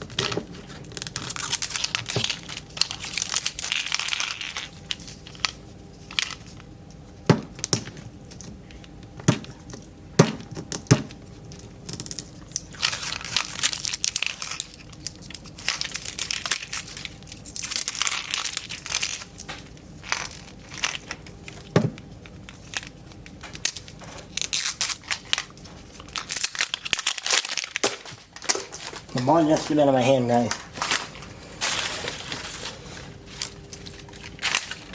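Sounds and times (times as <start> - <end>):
plastic wrapping crinkling and tearing: 0.0 - 9.9, 11.1 - 34.9.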